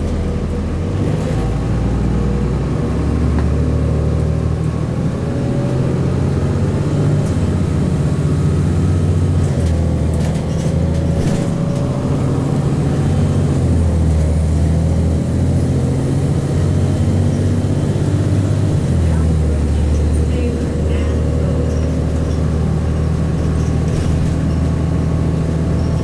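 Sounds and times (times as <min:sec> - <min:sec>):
bus diesel engine drone: 0:00.0 - 0:26.0.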